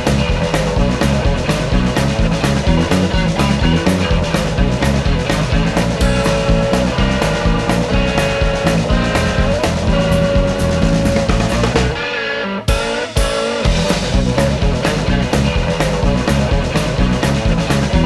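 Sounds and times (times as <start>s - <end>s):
rock music with electric guitar: 0.0s - 18.0s.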